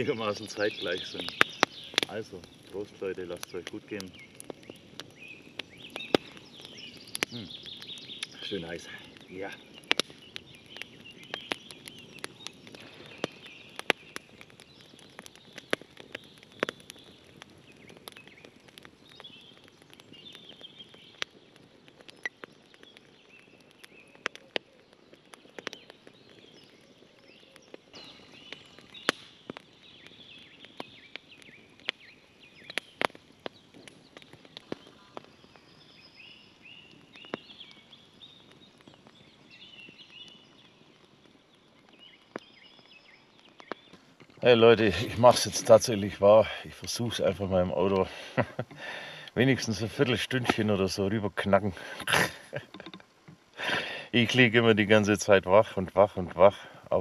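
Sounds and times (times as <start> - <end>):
birds singing: 0.0 - 57.0
campfire crackling and popping: 0.0 - 57.0.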